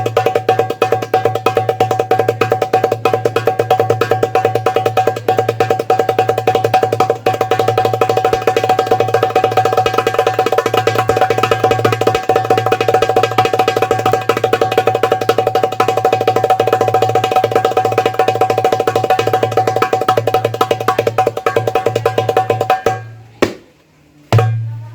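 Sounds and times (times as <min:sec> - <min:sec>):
darbuka drum roll: 0:00.0 - 0:24.9.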